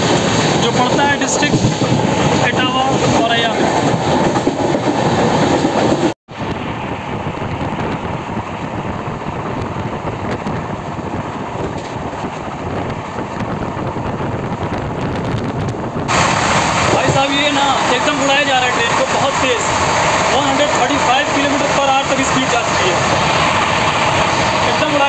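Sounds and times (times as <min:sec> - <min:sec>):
train running on rails: 0:00.0 - 0:25.0.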